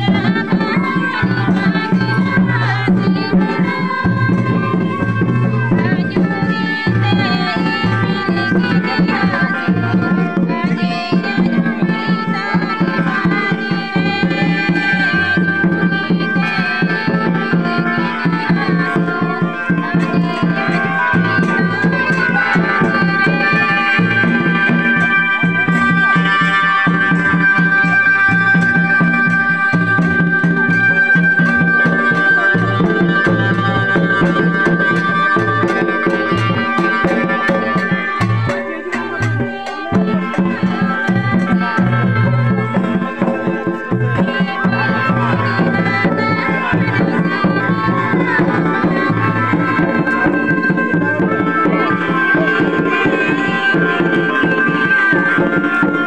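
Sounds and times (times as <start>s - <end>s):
hand-beaten barrel drum: 0.0s - 56.0s
keyed banjo melody: 0.0s - 56.0s
person singing: 0.0s - 56.0s.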